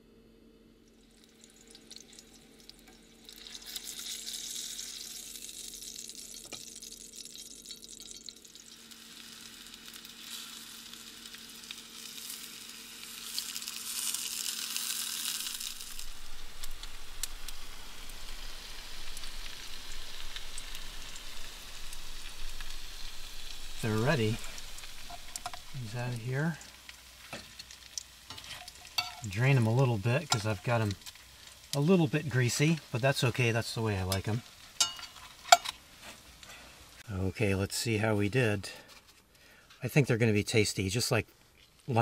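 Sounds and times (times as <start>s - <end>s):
food sizzling in hot oil: 0.8s - 37.1s.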